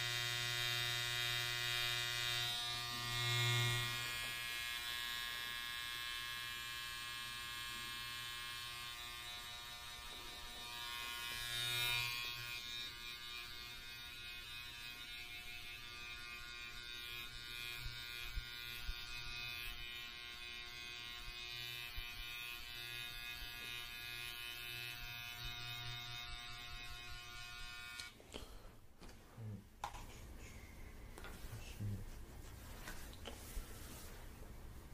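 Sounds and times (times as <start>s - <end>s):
electric hair clippers running: 0.0s - 28.2s.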